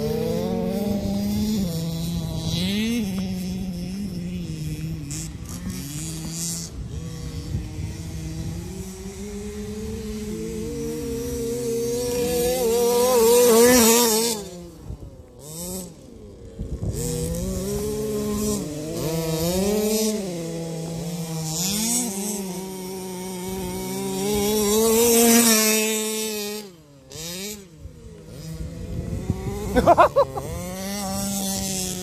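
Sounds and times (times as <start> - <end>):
small two-stroke engines racing: 0.0 - 32.0.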